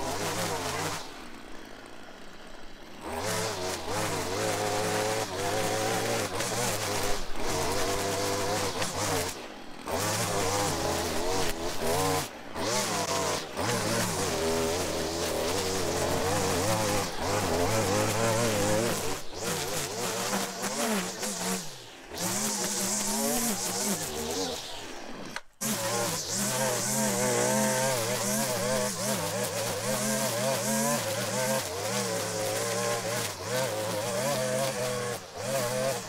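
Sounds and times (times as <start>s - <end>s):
string trimmer cutting grass: 0.0s - 36.0s.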